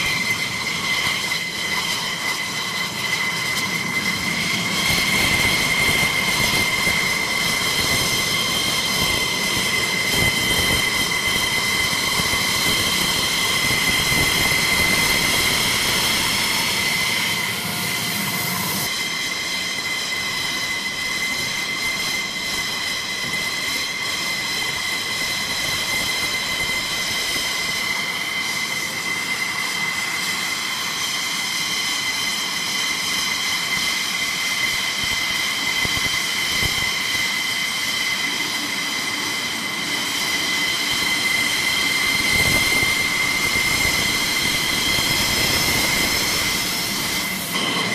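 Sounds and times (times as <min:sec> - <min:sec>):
jet engine idling whine: 0:00.0 - 0:47.9.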